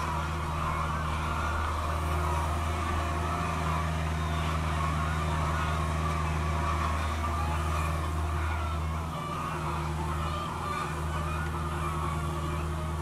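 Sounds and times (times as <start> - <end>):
diesel engine running under load: 0.0 - 13.0
hydraulic whine: 0.0 - 13.0.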